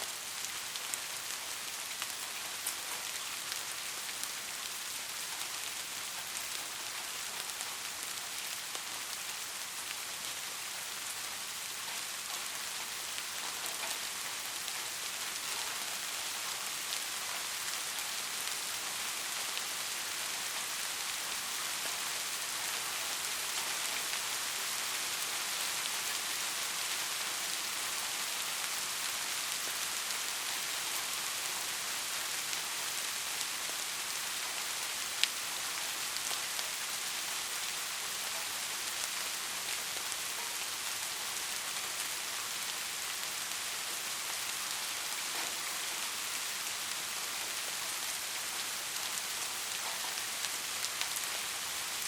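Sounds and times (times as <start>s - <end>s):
soft steady rain: 0.0s - 52.0s.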